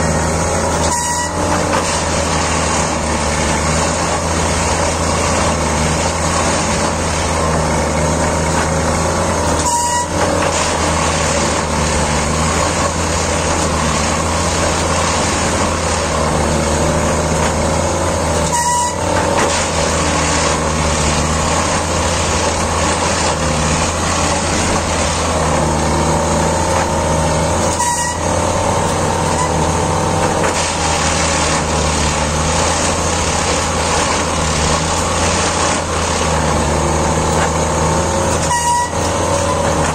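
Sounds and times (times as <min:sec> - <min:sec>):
track tamping machine running: 0:00.0 - 0:39.9.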